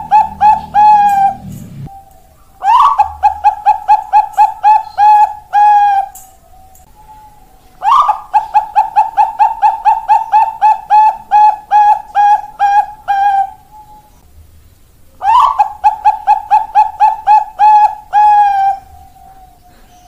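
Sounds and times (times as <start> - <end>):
dove cooing: 0.0 - 14.2, 15.2 - 20.0.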